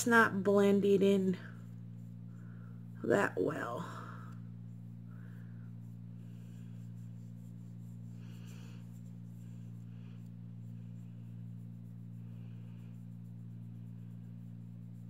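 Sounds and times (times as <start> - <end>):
makeup sponge dabbing skin: 0.0 - 3.8, 4.4 - 15.0
steady low hum: 0.0 - 15.0.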